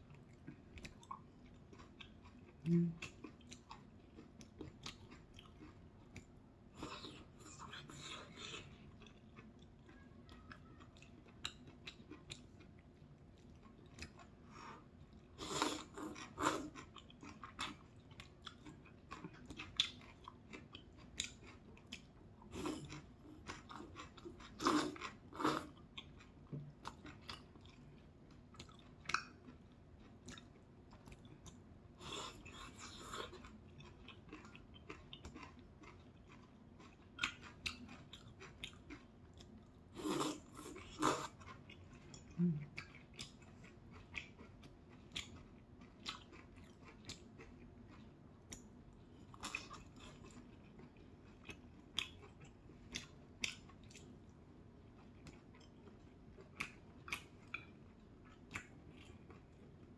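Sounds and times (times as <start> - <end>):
wet chewing: 0.1 - 54.2.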